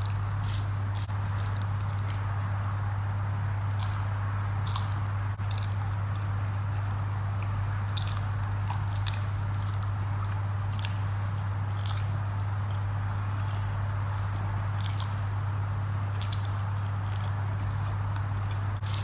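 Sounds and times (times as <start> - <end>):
wet chewing and lip-smacking: 0.0 - 15.3, 15.9 - 19.0
steady low hum: 0.0 - 19.0.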